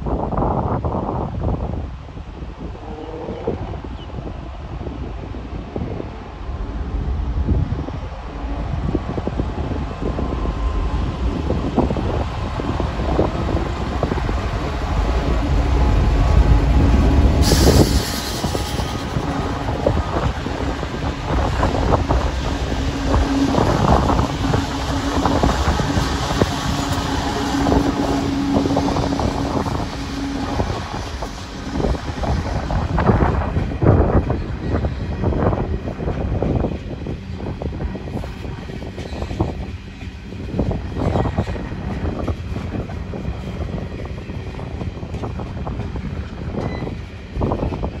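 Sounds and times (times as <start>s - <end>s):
heavy train rumble: 0.0s - 48.0s
diesel locomotive engines humming: 0.1s - 48.0s.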